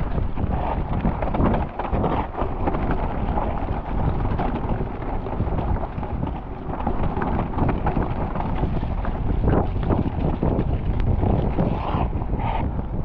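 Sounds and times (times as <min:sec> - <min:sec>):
bike knocking over bumps: 0:00.0 - 0:11.4
bike tyres on rough trail: 0:00.0 - 0:13.0
wind rushing over microphone: 0:00.0 - 0:13.0.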